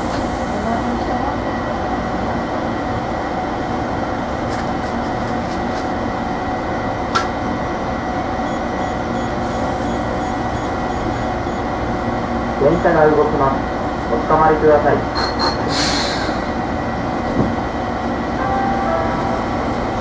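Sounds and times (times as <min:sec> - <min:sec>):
tram equipment humming: 0:00.0 - 0:20.0.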